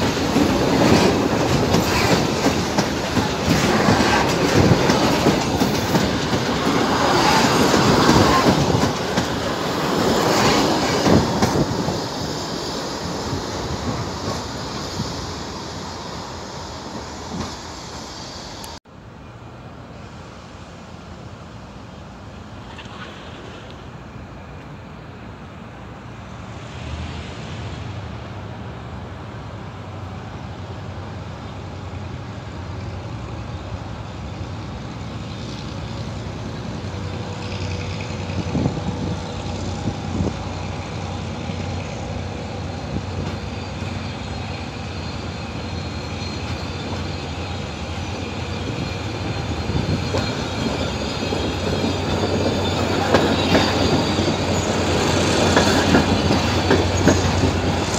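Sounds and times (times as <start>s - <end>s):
train coaches passing: 0.0s - 57.9s
train engine hum: 0.0s - 57.9s.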